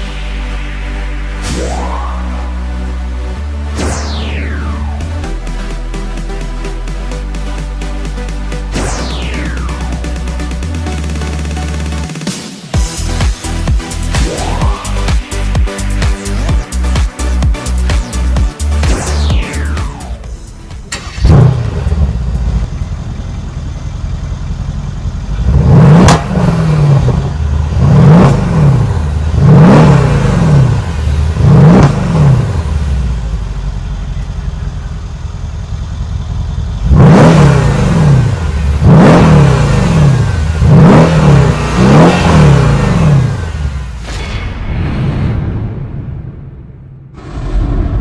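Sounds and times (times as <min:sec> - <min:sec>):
car engine revving: 0:00.0 - 0:44.3
car engine starting: 0:00.0 - 0:44.8.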